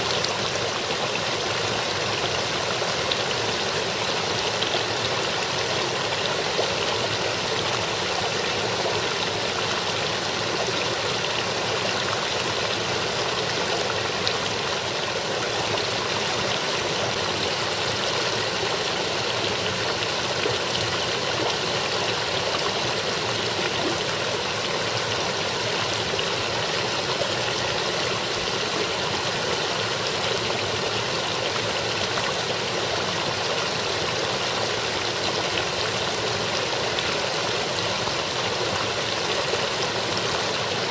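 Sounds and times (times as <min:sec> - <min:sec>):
stream splashing over rocks: 0:00.0 - 0:40.9.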